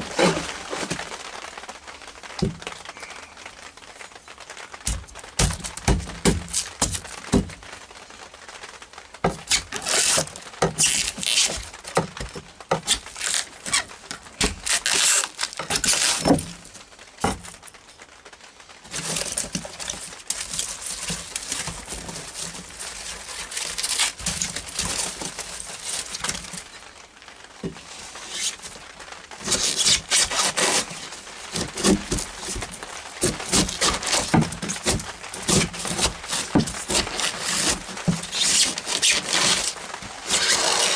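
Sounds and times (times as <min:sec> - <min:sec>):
scraping and tearing foam and wood: 0:00.0 - 0:40.9.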